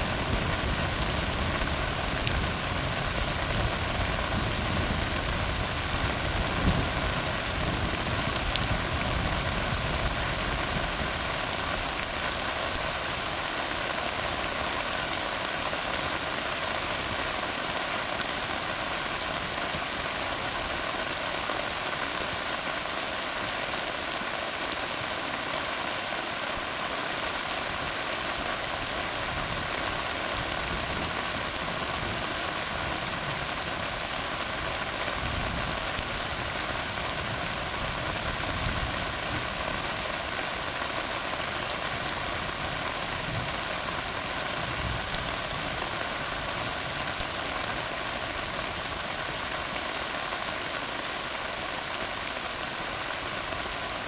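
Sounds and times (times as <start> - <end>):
rain on a road: 0.0 - 54.0.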